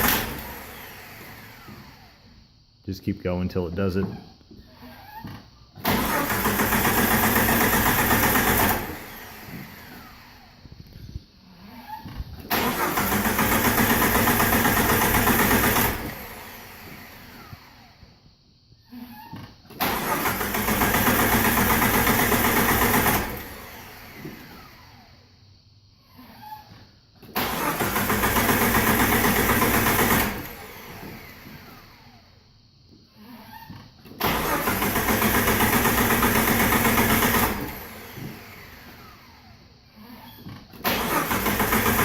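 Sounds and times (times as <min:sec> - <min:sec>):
engine starter cranking: 0:00.0 - 0:02.3, 0:04.8 - 0:18.0, 0:19.6 - 0:25.2, 0:26.3 - 0:32.2, 0:33.5 - 0:39.6, 0:40.2 - 0:42.0.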